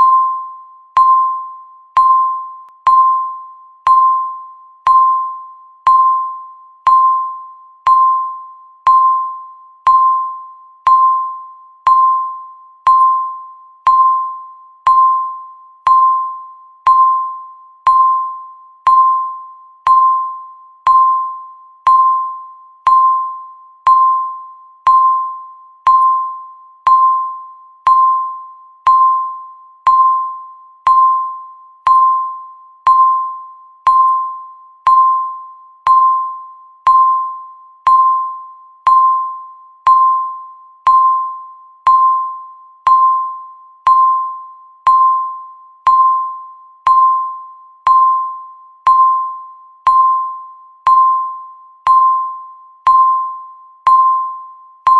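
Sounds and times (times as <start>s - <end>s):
timer beeps: 0.0s - 54.9s.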